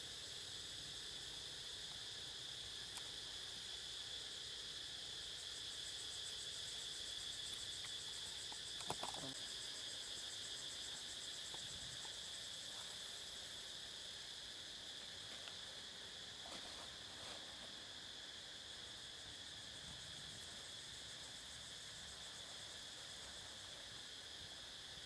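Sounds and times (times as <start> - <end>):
insect chorus: 0.0 - 25.0.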